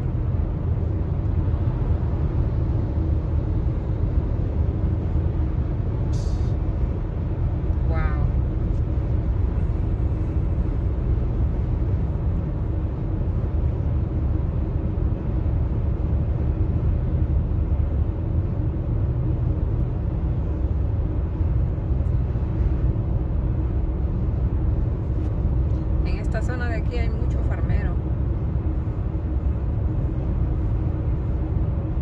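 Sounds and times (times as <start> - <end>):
tyre and engine rumble in car: 0.0 - 32.0.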